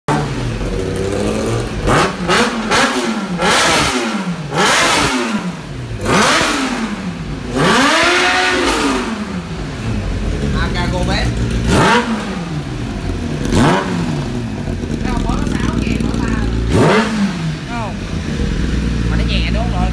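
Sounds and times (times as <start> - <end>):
motorcycle engine revving: 0.1 - 19.9.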